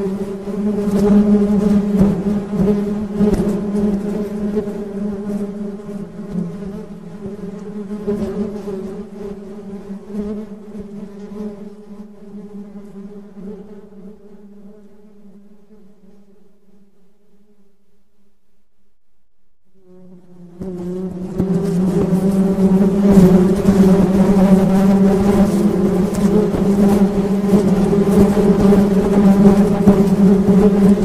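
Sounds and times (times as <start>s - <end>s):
honey bees buzzing: 0.0s - 16.2s, 19.7s - 31.0s.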